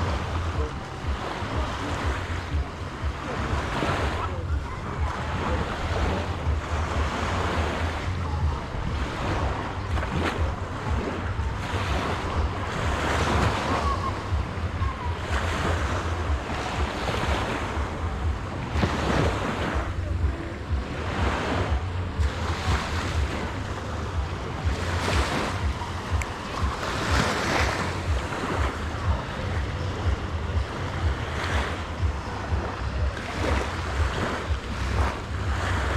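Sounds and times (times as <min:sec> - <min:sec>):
sea waves breaking on beach: 0:00.0 - 0:35.9
wind buffeting microphone: 0:00.0 - 0:35.9.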